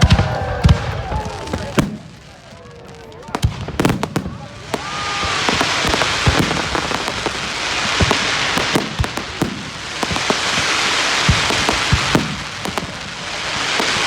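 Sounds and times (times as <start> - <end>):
fireworks bangs: 0.0 - 14.0
fireworks crackling hiss: 0.4 - 14.0.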